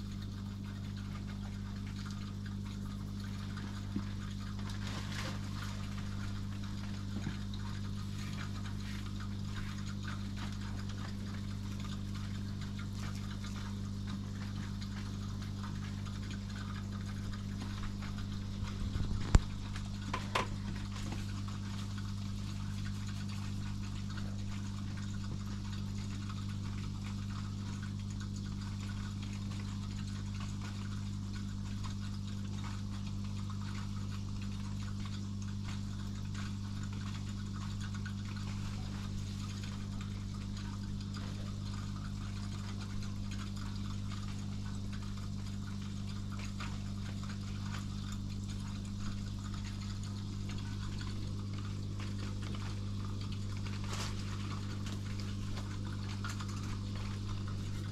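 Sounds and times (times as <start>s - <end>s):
aquarium pump humming: 0.0s - 57.9s
water bubbling and trickling: 0.0s - 57.9s.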